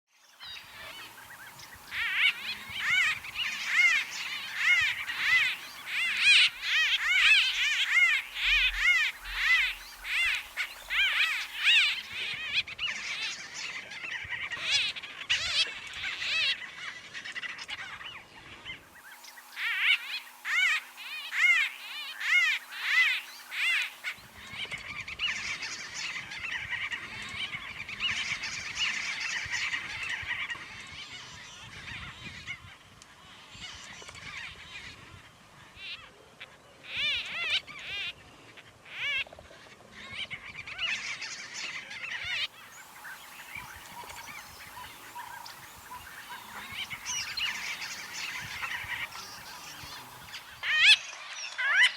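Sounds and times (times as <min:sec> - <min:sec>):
flock of birds trilling chirps: 0:00.2 - 0:51.9.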